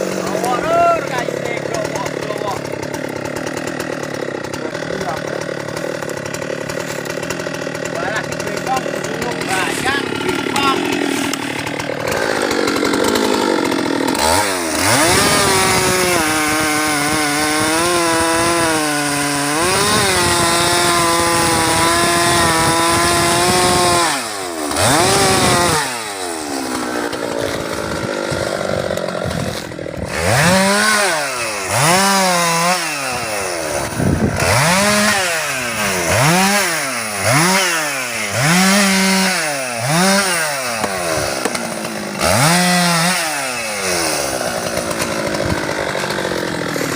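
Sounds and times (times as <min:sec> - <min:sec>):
chainsaw revving: 0:00.0 - 0:46.9.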